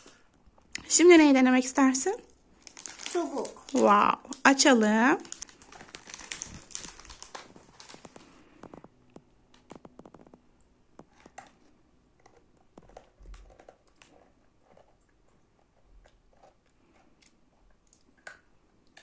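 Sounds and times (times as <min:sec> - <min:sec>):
child chewing crunchy crackers: 0:02.2 - 0:04.4, 0:05.2 - 0:19.0.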